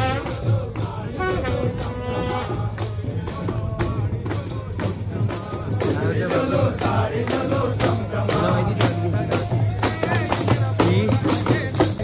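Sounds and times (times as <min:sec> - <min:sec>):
drum beat: 0:00.0 - 0:12.0
jingling tambourine-like percussion: 0:00.0 - 0:12.0
voices singing along: 0:00.0 - 0:12.0.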